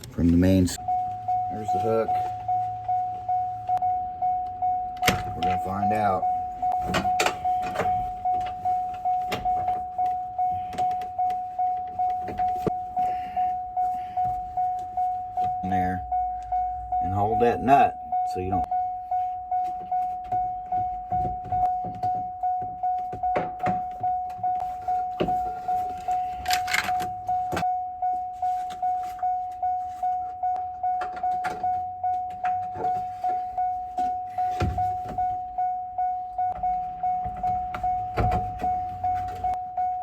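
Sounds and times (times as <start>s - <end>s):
vehicle warning chime dinging: 0.0s - 40.0s.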